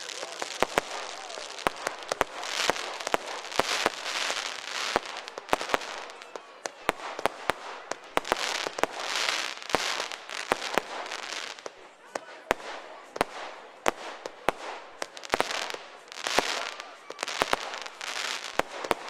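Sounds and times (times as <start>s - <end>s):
crackling fireworks shower: 0.0s - 19.0s
fireworks bangs and cracks: 0.0s - 19.0s.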